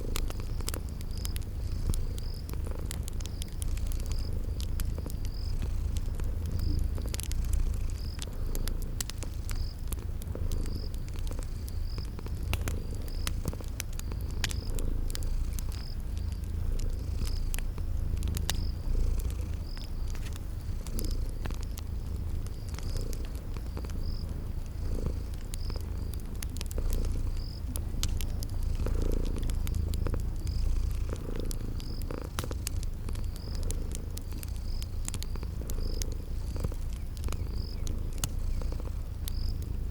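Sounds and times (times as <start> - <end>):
cat purring deeply: 0.0 - 39.9
crickets chirping: 0.0 - 39.9
fire crackling with pops: 0.0 - 39.9.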